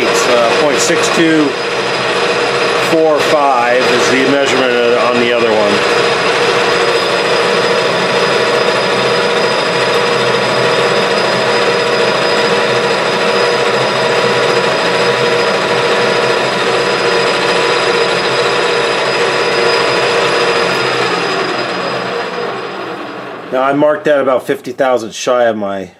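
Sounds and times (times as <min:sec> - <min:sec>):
metal lathe gear whine: 0:00.0 - 0:25.0.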